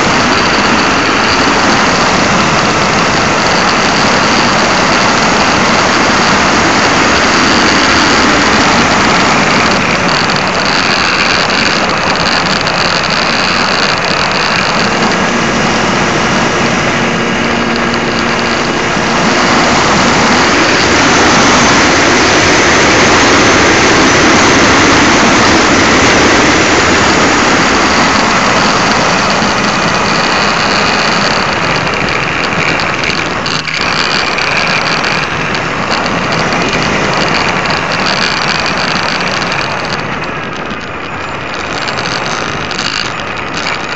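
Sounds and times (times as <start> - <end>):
wind and propeller rushing: 0.0 - 43.9.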